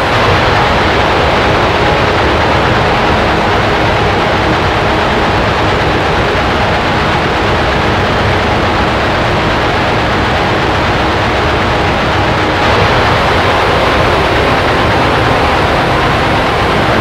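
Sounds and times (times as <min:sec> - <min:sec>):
black metal with distorted guitars: 0:00.0 - 0:17.0.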